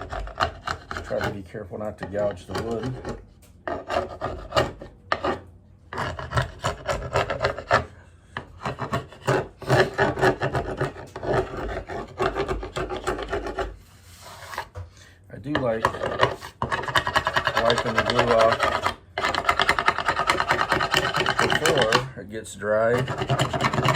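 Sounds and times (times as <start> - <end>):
hand scraper rasping on wood: 0.0 - 14.7, 15.5 - 22.1, 22.8 - 23.9.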